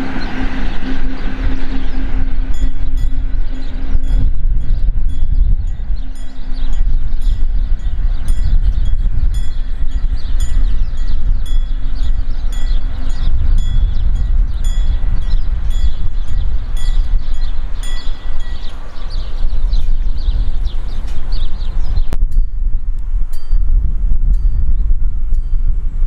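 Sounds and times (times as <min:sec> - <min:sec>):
train rumbling past: 0:00.0 - 0:22.1
wheels clicking and squealing on rails: 0:00.0 - 0:22.1.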